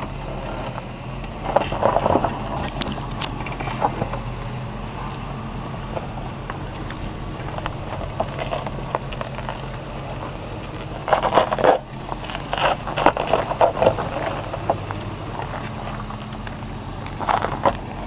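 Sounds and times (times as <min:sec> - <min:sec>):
low engine hum: 0:00.0 - 0:18.0
tyres crunching over gravel: 0:00.0 - 0:18.0.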